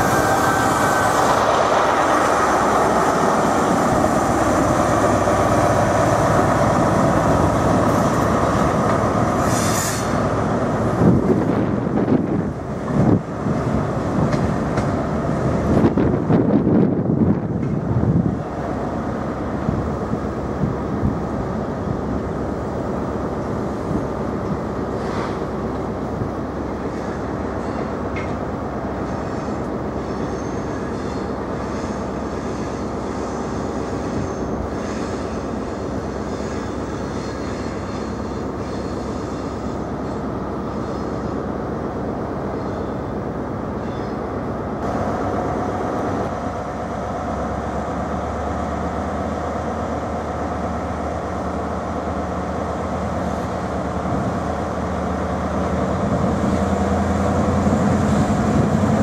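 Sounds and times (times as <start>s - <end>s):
diesel train engines running: 0.0s - 59.0s.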